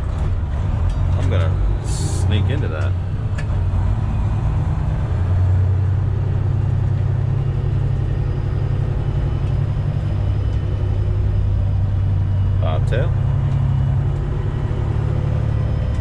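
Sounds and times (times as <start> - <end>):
truck engine low rumble: 0.0 - 16.0.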